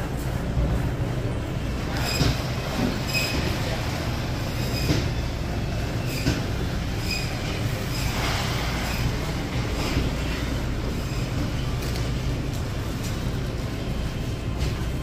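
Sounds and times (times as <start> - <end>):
supermarket ambience: 0.0 - 15.0.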